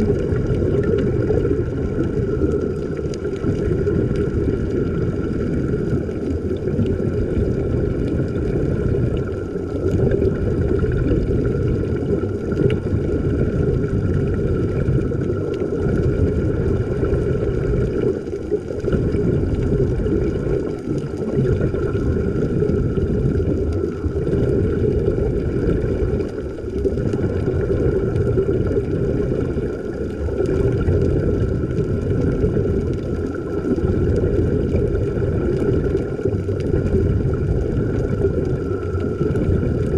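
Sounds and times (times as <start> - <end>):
low rumbling noise: 0.0 - 39.9.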